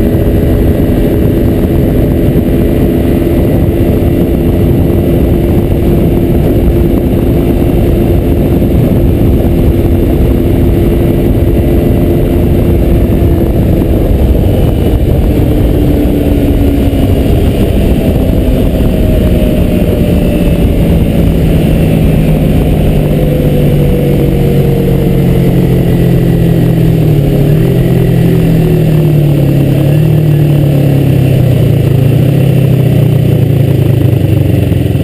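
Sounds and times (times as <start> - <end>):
heavy wind rush: 0.0 - 35.0
motorcycle engine running: 0.0 - 35.0.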